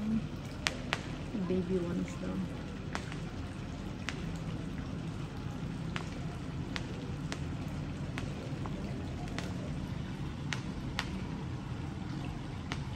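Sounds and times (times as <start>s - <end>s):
small fireworks popping: 0.1s - 12.9s.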